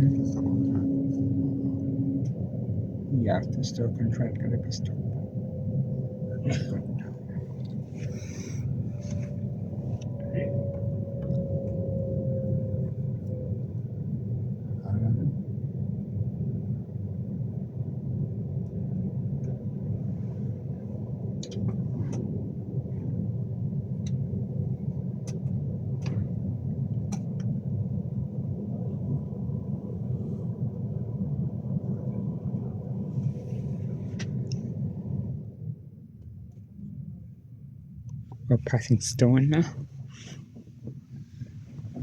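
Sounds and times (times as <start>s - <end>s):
train rumble inside carriage: 0.0s - 42.0s.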